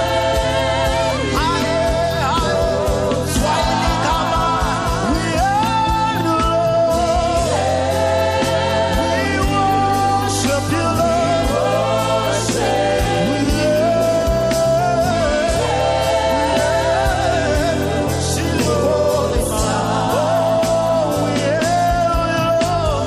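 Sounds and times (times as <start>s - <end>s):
band accompaniment: 0.0s - 23.0s.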